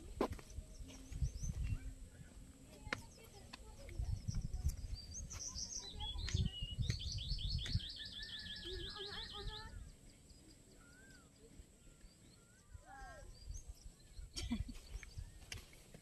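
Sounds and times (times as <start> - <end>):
songbird chirping and trilling: 0.0 - 16.0.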